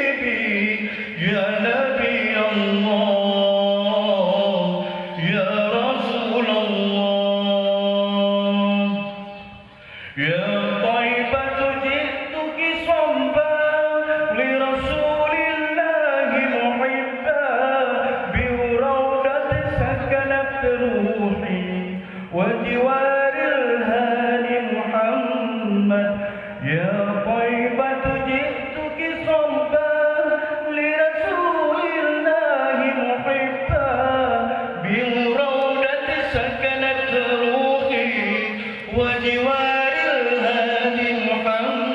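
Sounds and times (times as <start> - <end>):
person chanting melismatically: 0.0 - 41.9.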